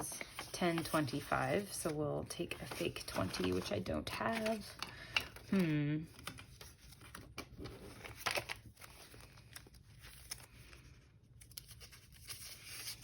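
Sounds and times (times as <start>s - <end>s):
paper banknotes rustling: 0.0s - 5.6s, 6.2s - 13.0s.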